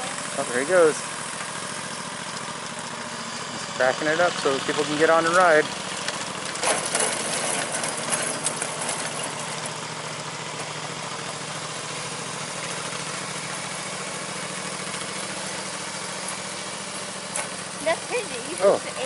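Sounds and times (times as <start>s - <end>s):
small locomotive engine running: 0.0s - 19.0s.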